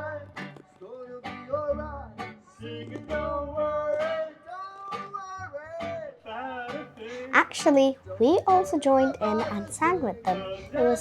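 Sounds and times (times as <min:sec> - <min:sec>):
guitars plucked and strummed: 0:00.0 - 0:11.0
two people singing: 0:00.0 - 0:11.0.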